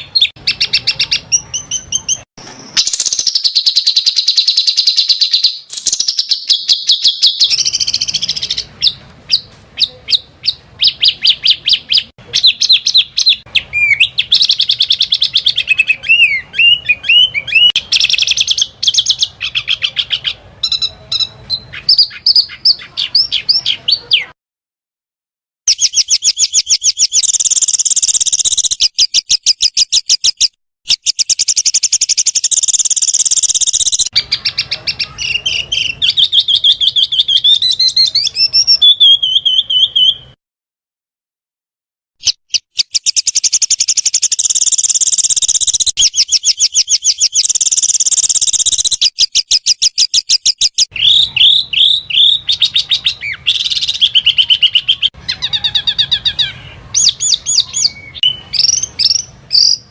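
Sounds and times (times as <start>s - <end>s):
songbirds trilling: 0.0s - 24.4s, 25.7s - 40.4s, 42.5s - 59.9s.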